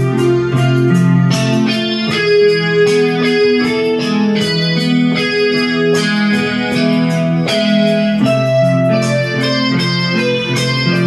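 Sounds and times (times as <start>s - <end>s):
electronic keyboard chords: 0.0s - 11.0s.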